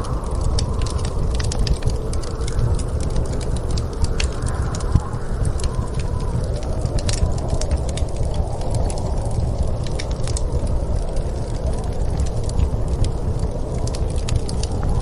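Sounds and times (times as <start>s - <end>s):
storm wind rushing: 0.0s - 15.0s
wood fire crackling and popping: 0.0s - 15.0s.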